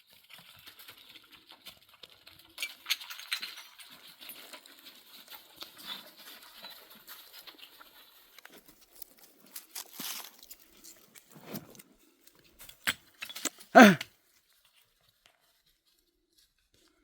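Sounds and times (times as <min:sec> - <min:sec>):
rustling and crinkling: 0:00.0 - 0:17.0.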